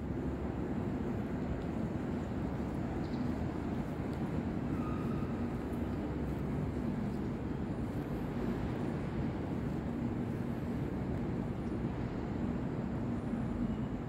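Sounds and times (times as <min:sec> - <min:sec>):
steady low rumble: 0:00.0 - 0:13.8.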